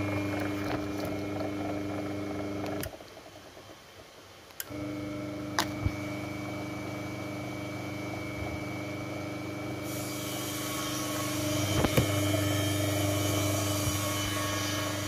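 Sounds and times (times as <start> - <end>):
electric motor hum: 0.0 - 3.1, 4.6 - 15.0.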